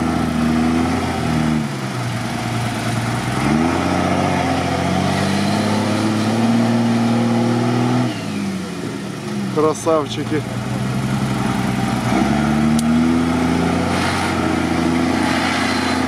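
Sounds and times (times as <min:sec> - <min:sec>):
truck engine revving under load: 0:00.0 - 0:16.0.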